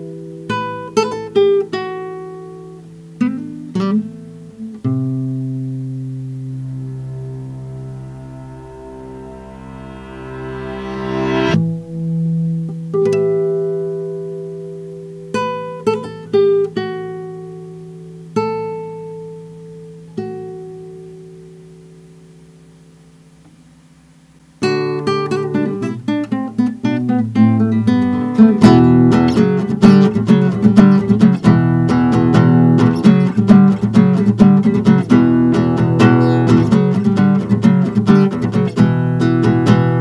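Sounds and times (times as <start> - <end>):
classical guitar playing: 0.0 - 23.5, 24.5 - 40.0.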